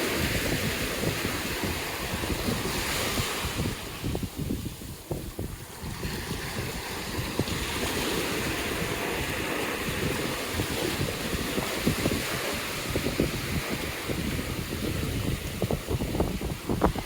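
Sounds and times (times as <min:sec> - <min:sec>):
ocean surf on a beach: 0:00.0 - 0:17.0
wind buffeting microphone: 0:00.0 - 0:17.0.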